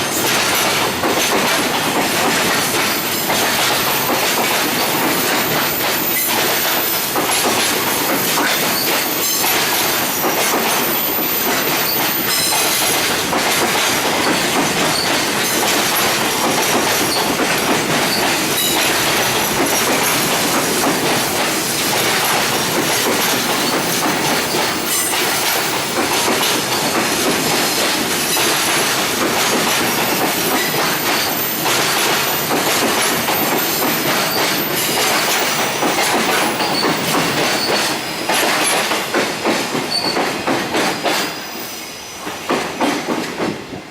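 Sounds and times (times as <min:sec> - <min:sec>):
train wheels clacking over rail joints: 0:00.0 - 0:41.6, 0:42.2 - 0:43.9.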